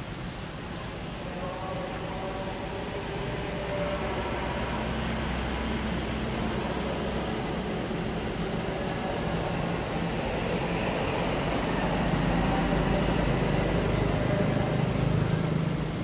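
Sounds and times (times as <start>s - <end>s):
engine hum: 0.0s - 16.0s
outdoor background noise: 0.0s - 16.0s.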